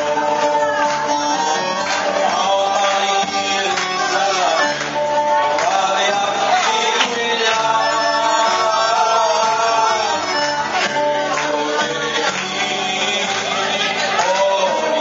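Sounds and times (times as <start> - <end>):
electronic keyboard dance music: 0.0 - 14.0.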